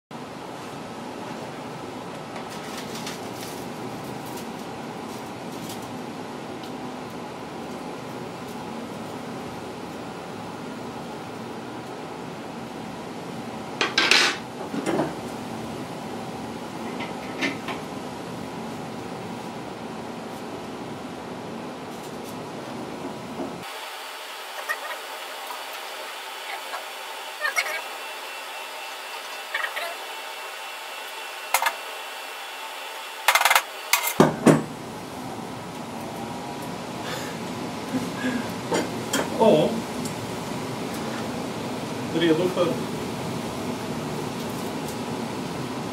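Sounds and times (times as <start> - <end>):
steady hum: 0.2 - 45.9.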